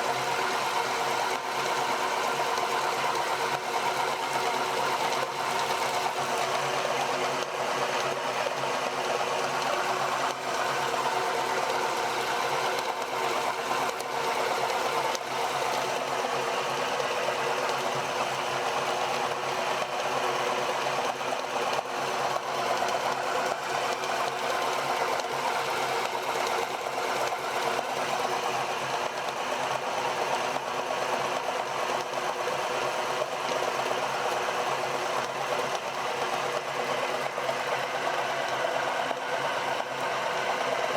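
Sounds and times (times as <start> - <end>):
electric meat grinder running: 0.0 - 40.9.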